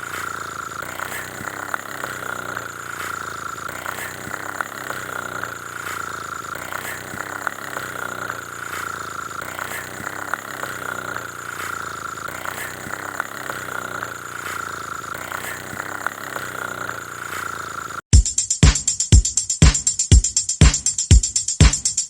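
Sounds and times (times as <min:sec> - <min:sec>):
engine-like running with whine: 0:00.0 - 0:18.1.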